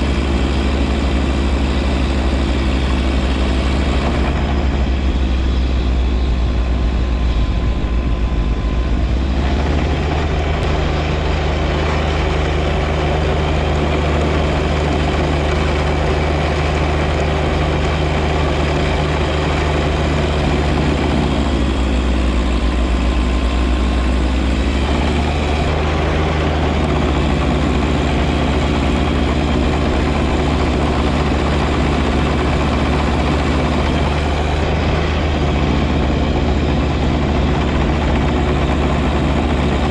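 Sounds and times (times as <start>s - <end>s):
snow blower: 0.0s - 39.9s
tractor diesel engine running: 0.0s - 39.9s.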